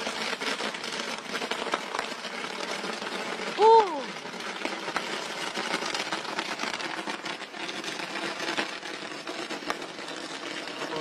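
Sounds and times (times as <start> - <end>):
fireworks crackling and fizzing: 0.0 - 11.0
sharp firework cracks: 0.0 - 11.0.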